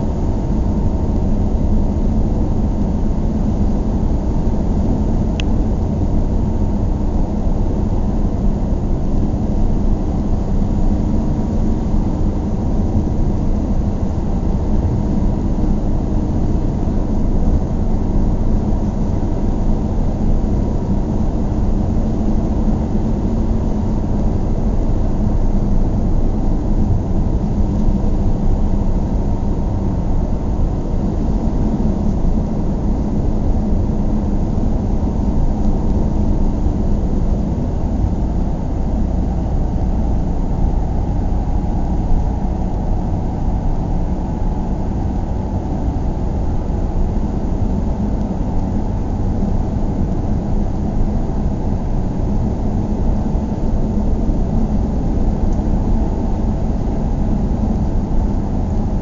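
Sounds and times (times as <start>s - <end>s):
low vehicle rumble: 0.0s - 59.0s.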